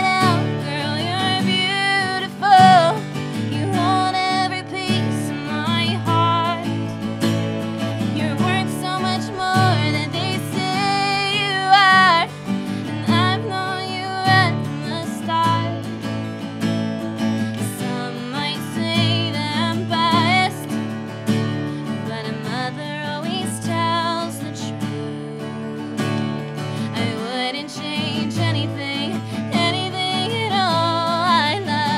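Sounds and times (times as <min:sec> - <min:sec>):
woman singing: 0:00.0 - 0:16.1, 0:17.5 - 0:31.9
acoustic guitar strumming: 0:00.0 - 0:31.9.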